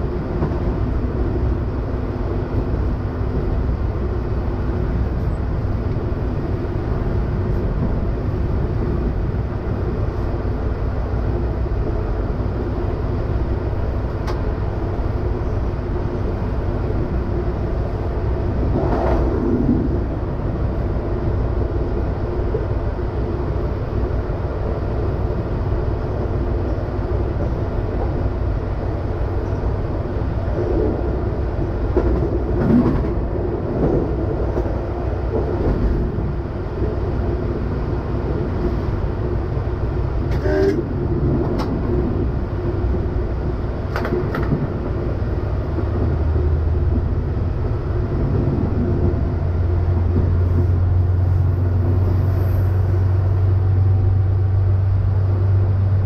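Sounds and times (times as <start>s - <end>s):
railcar engine drone: 0.0s - 56.0s.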